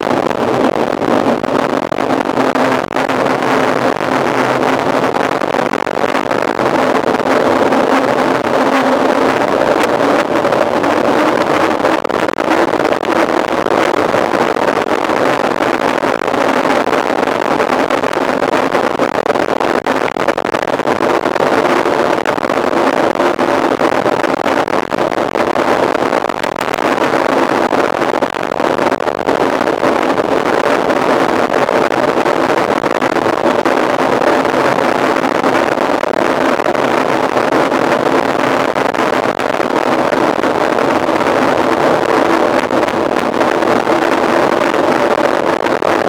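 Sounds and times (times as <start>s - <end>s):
wind on microphone: 0.0s - 46.0s.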